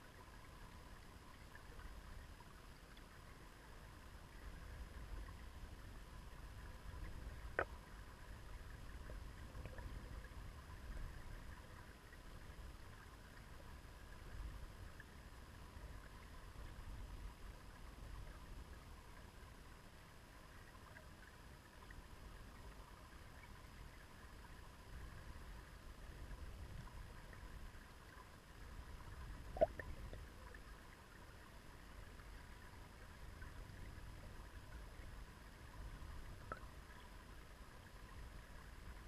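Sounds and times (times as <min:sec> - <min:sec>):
underwater river current rumble: 0:00.0 - 0:39.0.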